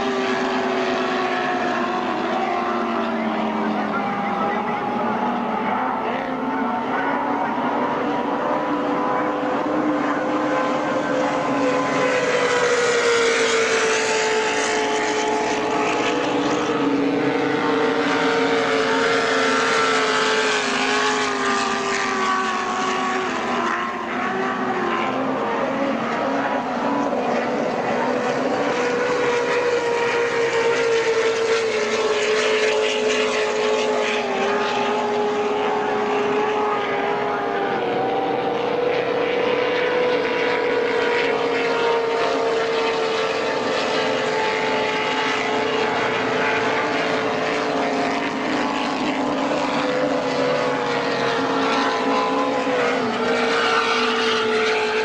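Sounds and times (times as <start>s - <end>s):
powerboat engines at high revs: 0.0s - 55.0s.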